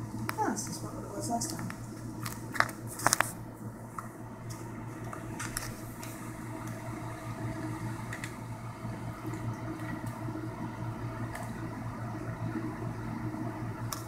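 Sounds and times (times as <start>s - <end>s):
cooling fan humming: 0.0s - 14.0s.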